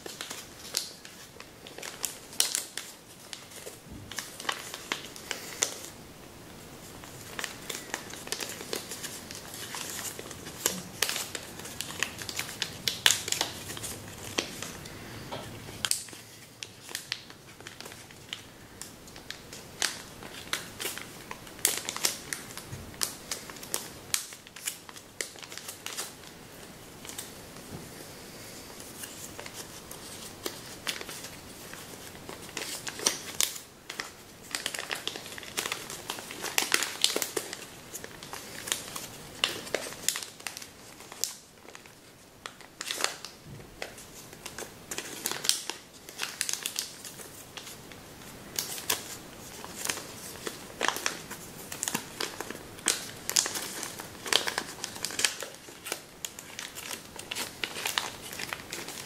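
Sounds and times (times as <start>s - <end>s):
paper crinkling and crackling: 0.0s - 6.0s, 6.6s - 59.0s.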